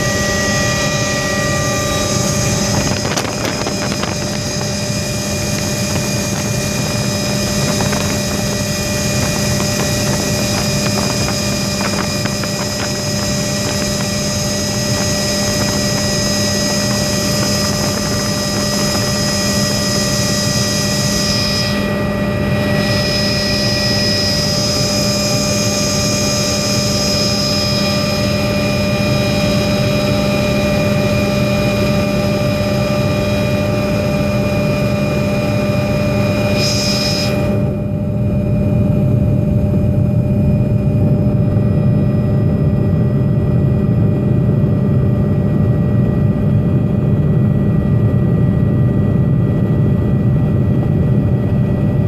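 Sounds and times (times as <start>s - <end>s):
helicopter engine and rotor noise: 0.0s - 52.0s
high whine: 0.0s - 52.0s.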